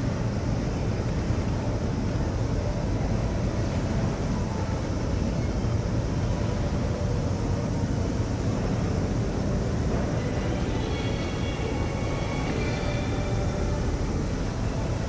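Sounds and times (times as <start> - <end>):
ship engines rumbling: 0.0 - 15.0.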